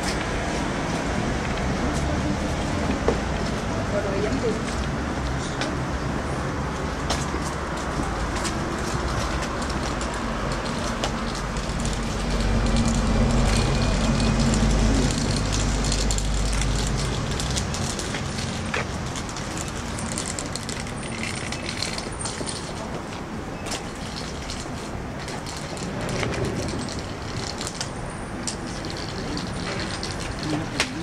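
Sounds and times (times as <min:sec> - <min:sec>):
heavy vehicle engine rumbling: 0:00.0 - 0:31.0
street noise: 0:00.0 - 0:31.0.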